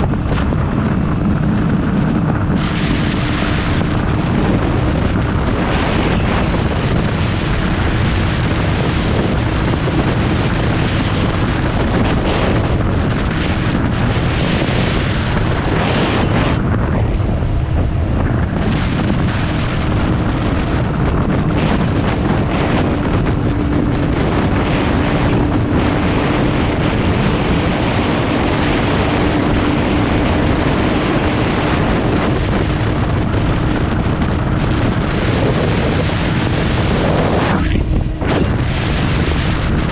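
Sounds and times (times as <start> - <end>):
motorcycle engine hum: 0.0 - 39.9
wind buffeting microphone: 0.0 - 39.9.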